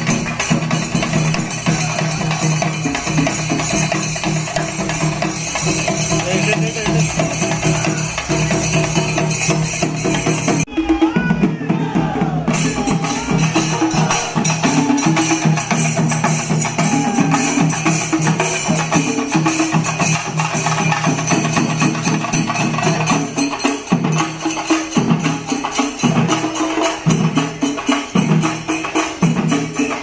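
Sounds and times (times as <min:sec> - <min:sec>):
hand cymbals: 0:00.0 - 0:11.4, 0:12.5 - 0:30.0
drums playing fast rhythm: 0:00.0 - 0:30.0.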